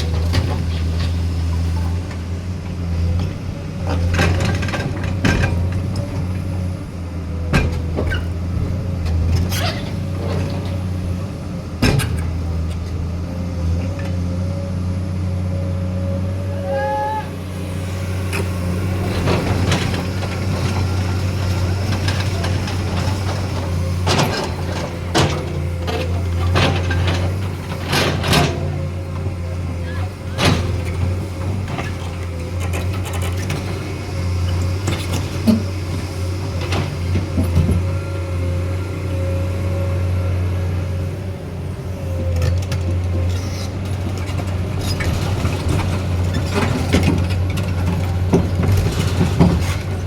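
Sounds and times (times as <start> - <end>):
excavator clanks and knocks: 0.0 - 14.5, 17.3 - 50.0
diesel engine running: 0.0 - 50.0.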